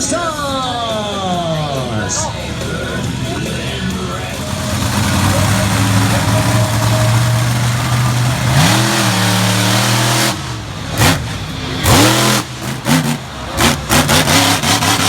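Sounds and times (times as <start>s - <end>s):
engine throttle blips: 0.0s - 15.0s
truck engines idling and revving: 0.0s - 15.0s.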